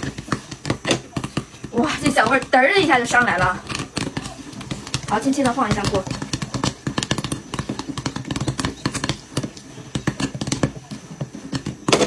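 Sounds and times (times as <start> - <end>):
popcorn popping in a pan: 0.0 - 12.0.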